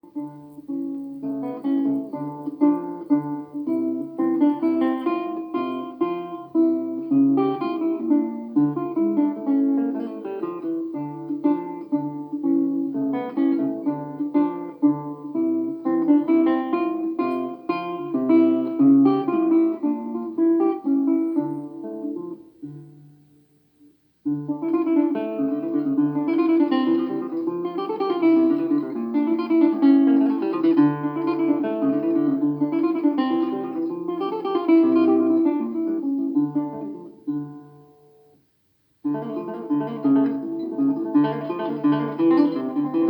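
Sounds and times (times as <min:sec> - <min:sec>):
acoustic guitar music: 0:00.0 - 0:43.0.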